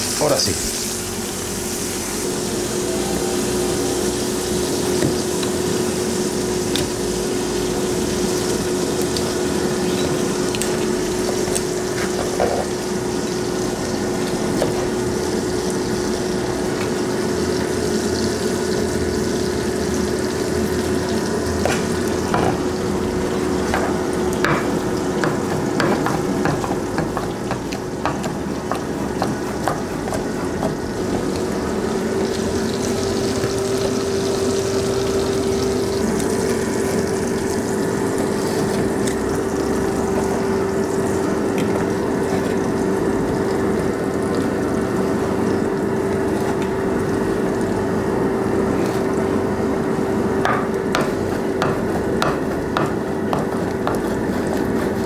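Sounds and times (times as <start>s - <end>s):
food sizzling in frying pans: 0.0s - 55.0s
steady hum: 0.0s - 55.0s.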